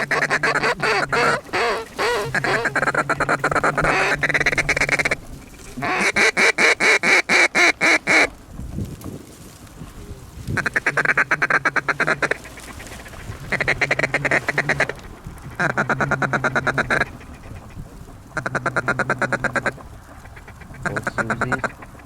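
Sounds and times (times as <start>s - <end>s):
duck call quacking: 0.0s - 5.2s, 5.8s - 8.3s, 10.6s - 22.0s.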